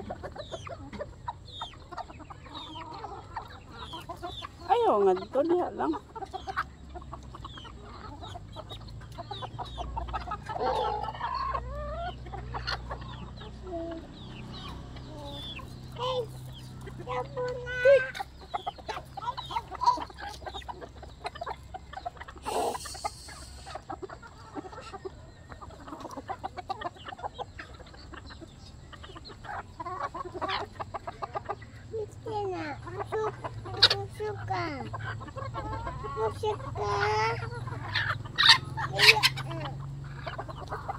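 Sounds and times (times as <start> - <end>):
hens clucking: 0.0 - 40.9.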